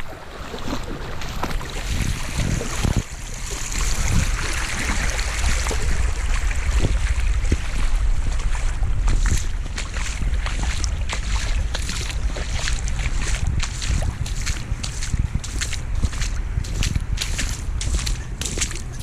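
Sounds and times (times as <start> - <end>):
floodwater rushing: 0.0 - 19.0
wind buffeting microphone: 0.0 - 19.0.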